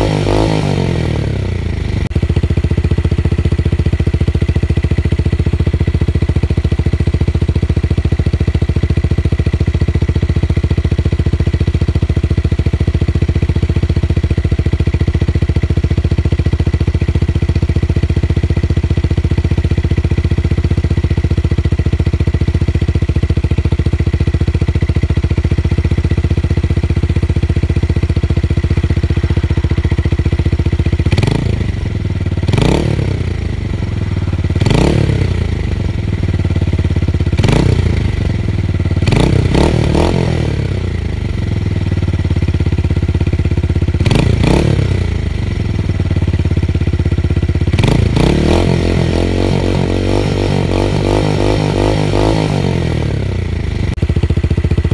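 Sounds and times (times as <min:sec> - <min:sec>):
motorcycle idling and revving: 0:00.0 - 0:54.9.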